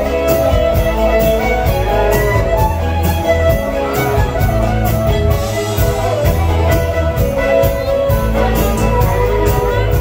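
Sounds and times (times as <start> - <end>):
country-rock band playing: 0.0 - 10.0
fiddle: 0.0 - 10.0.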